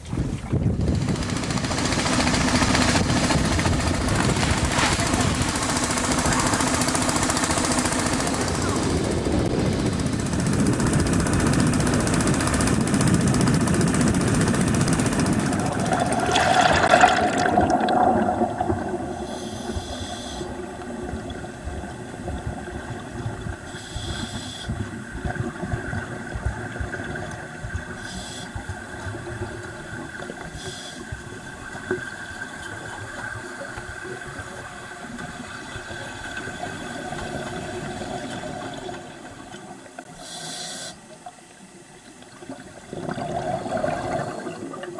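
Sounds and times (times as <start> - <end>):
water churning: 0.0 - 24.0, 24.7 - 40.1, 41.1 - 44.9
regulator bubbles hissing: 0.0 - 44.9
underwater hum: 2.2 - 44.9.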